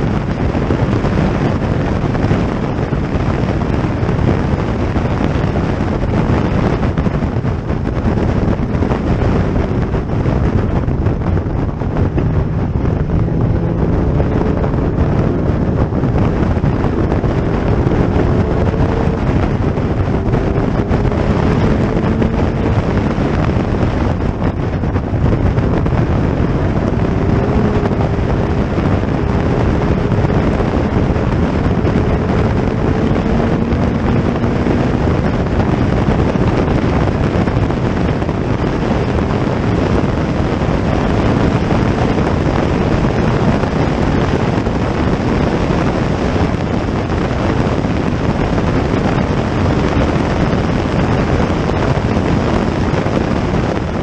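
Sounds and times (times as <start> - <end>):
faint racing car engines: 0.0 - 54.0
wind noise on microphone: 0.0 - 54.0.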